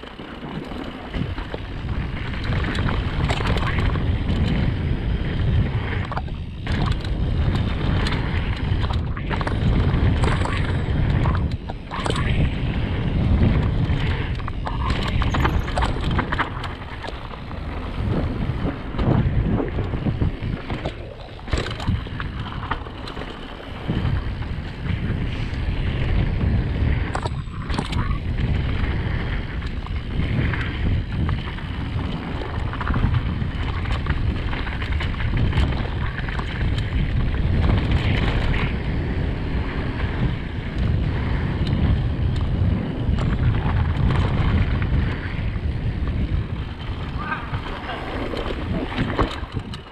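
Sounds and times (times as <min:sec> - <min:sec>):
bike clattering on rough trail: 0:00.0 - 0:49.9
wind buffeting microphone: 0:00.0 - 0:49.9.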